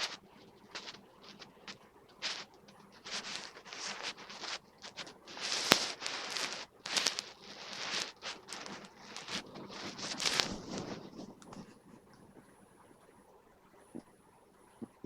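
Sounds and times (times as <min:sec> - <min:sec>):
rustling and scraping: 0:00.0 - 0:12.5.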